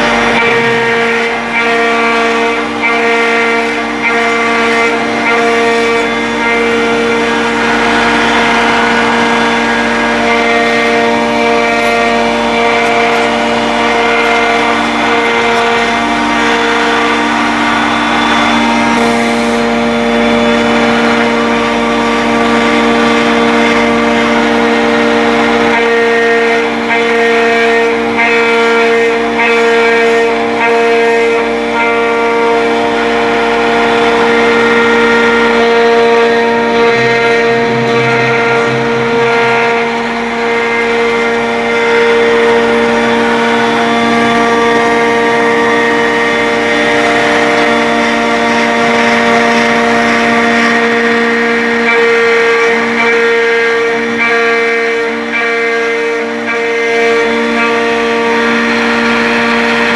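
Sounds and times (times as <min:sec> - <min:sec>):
cnc router whine: 0:00.0 - 0:59.9
rasping cutting noise: 0:00.0 - 0:59.9.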